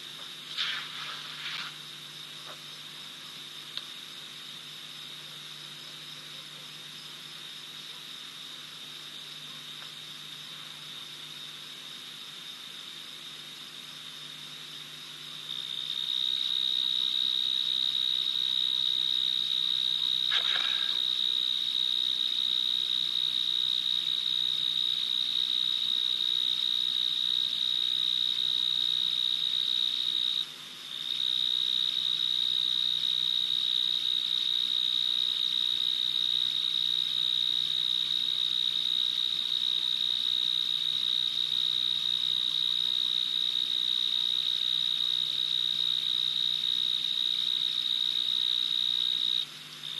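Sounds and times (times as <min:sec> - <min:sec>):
cricket trilling: 0:00.0 - 0:49.9.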